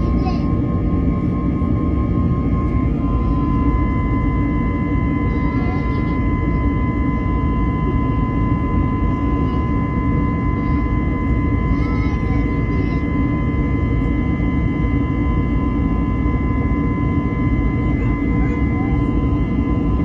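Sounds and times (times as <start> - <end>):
jet engine roar in cabin: 0.0 - 20.0
steady whining tones: 0.0 - 20.0.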